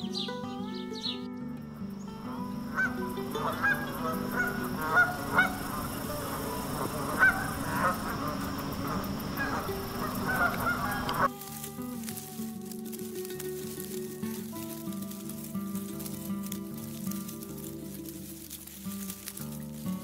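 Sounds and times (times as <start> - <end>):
soft background music: 0.0 - 20.0
swan calling: 2.0 - 20.0.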